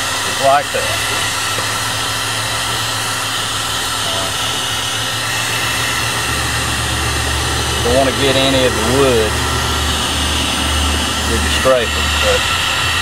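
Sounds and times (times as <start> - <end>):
heat gun blowing air: 0.0 - 13.0.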